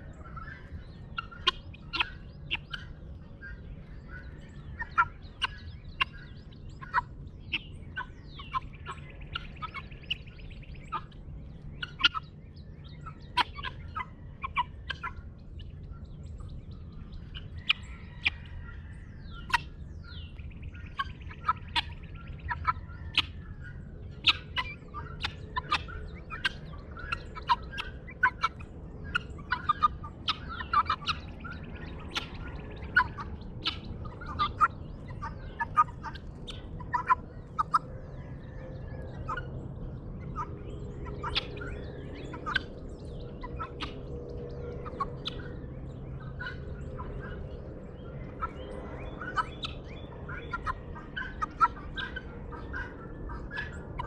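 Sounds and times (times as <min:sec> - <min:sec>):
birds chirping: 0:00.0 - 0:54.0
guineafowl calling: 0:00.0 - 0:54.0.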